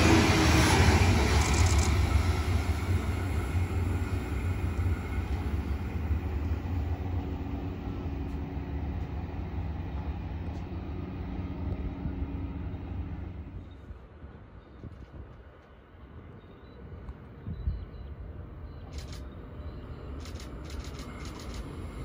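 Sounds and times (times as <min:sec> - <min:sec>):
electric train rumble: 0:00.0 - 0:14.5, 0:18.0 - 0:22.0.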